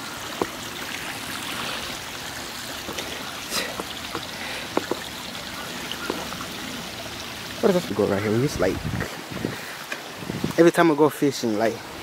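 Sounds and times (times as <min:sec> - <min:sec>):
creek water trickling over rock: 0:00.0 - 0:12.0.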